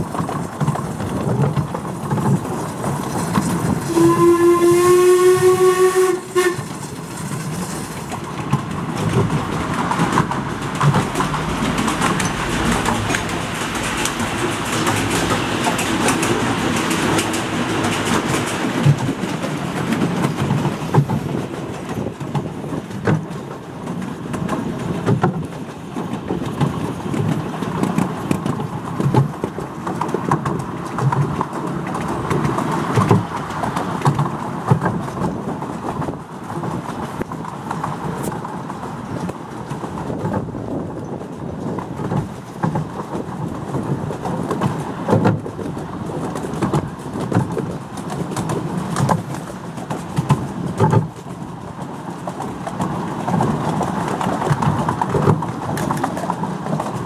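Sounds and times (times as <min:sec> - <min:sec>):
steam locomotive working: 0:00.0 - 0:57.0
train wheels rolling: 0:00.0 - 0:57.0
wheels knocking on rail joints: 0:00.0 - 0:57.0.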